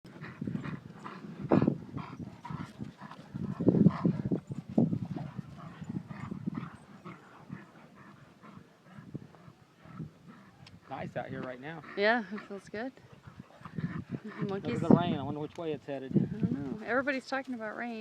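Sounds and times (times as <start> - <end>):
dogs panting: 0.1 - 15.2.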